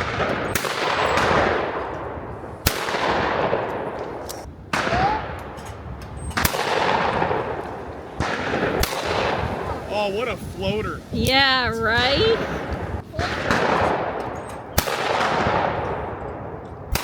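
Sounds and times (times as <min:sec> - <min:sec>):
shotgun shots with echo: 0:00.0 - 0:09.9, 0:13.1 - 0:17.0.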